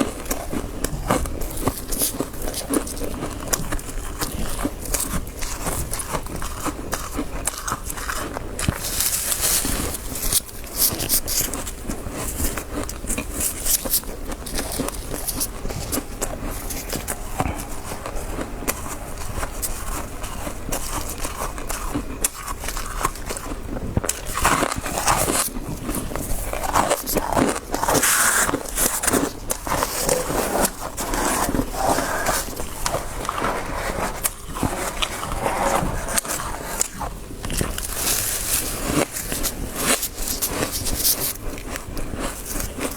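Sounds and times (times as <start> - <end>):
chewing crunchy frost: 0.0 - 42.9.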